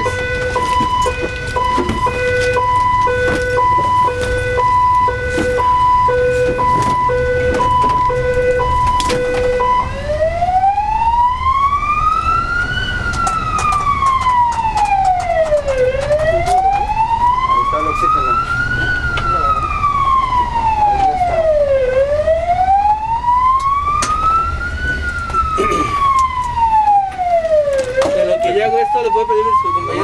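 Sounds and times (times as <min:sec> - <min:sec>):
ambulance siren: 0:00.0 - 0:30.0
vehicle engine and road rumble: 0:00.0 - 0:30.0.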